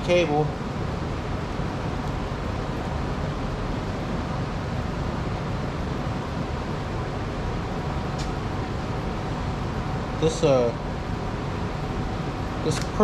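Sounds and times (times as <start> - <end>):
fan whoosh with faint hum: 0.0 - 13.0.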